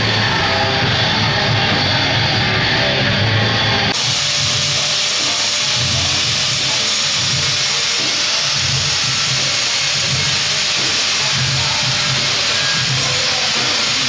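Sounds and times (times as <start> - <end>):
angle grinder grinding metal: 0.0 - 14.0.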